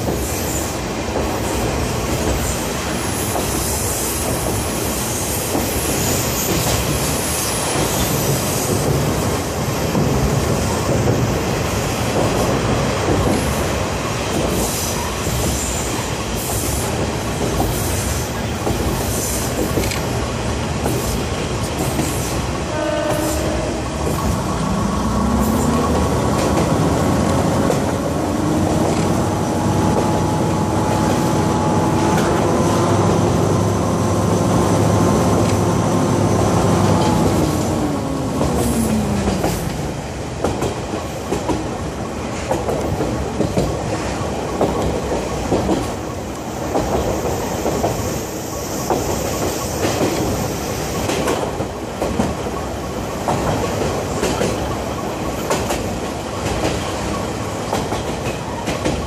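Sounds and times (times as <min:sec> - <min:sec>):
rail joint clicks: 0:00.0 - 0:59.0
wheels rumbling on rail: 0:00.0 - 0:59.0.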